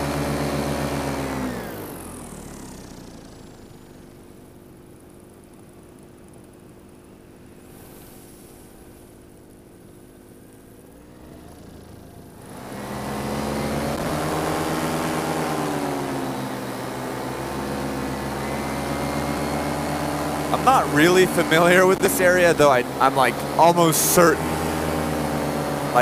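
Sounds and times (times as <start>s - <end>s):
paramotor engine and propeller: 0.0s - 26.0s.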